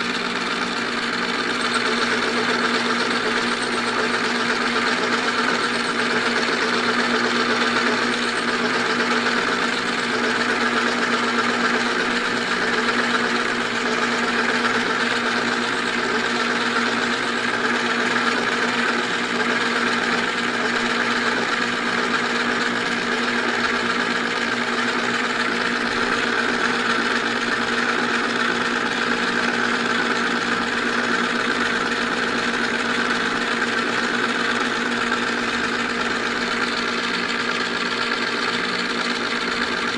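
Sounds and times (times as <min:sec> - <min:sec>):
lathe motor humming: 0:00.0 - 0:39.9
metal cutting noise: 0:00.0 - 0:39.9.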